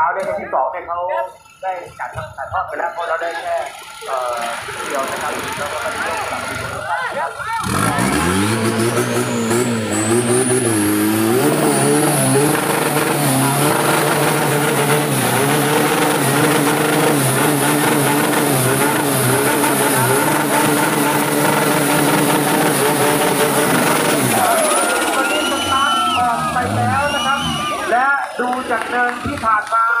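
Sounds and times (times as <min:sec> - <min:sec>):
diesel engine revving hard: 0:03.6 - 0:29.3
tyres churning mud: 0:04.1 - 0:29.8.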